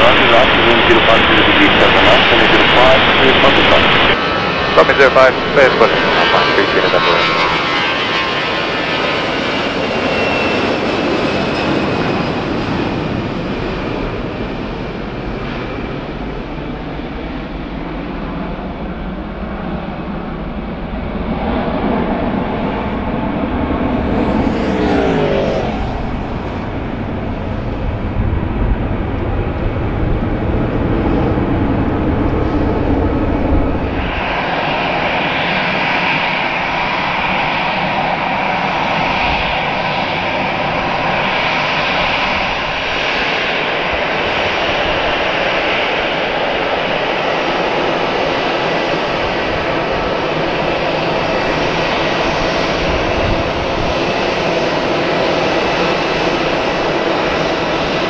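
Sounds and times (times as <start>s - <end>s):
jet engines roaring at takeoff: 0.0s - 58.0s
taxiing jet engine whine: 0.0s - 58.0s.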